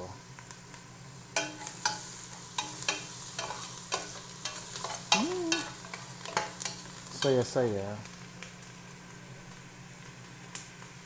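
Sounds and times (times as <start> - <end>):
sizzling in hot oil: 0.0 - 11.0.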